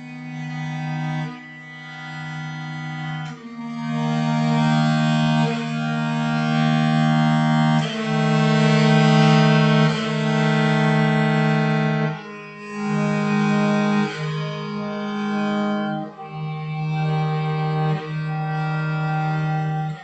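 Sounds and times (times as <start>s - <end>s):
bowed bass viol long notes: 0.0s - 20.0s.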